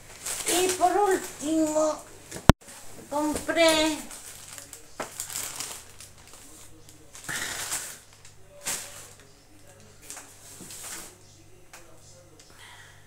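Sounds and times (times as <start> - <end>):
shopping bag rustling: 0.0 - 11.3.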